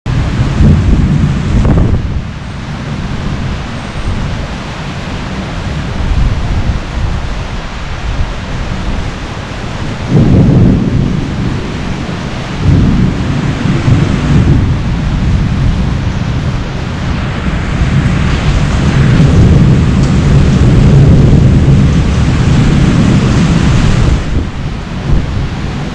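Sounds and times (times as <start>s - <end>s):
heavy rain pouring: 0.0s - 25.9s
thunder rumbling: 0.1s - 25.9s.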